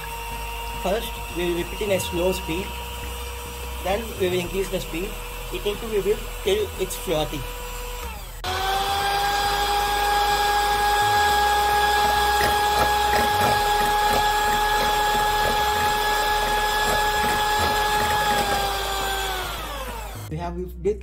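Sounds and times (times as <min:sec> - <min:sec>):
electric hand mixer whining: 0:00.0 - 0:20.3.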